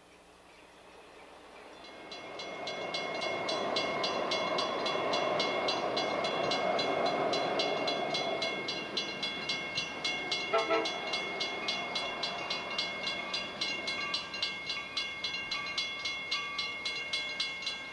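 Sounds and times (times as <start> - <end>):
diesel train rumble: 1.2 - 17.9
crossing bell ringing: 1.6 - 17.9.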